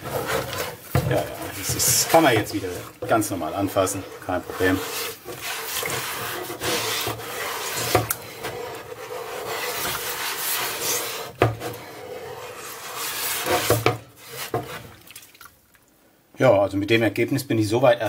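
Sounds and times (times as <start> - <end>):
sponge scrubbing metal plate: 0.0 - 15.0.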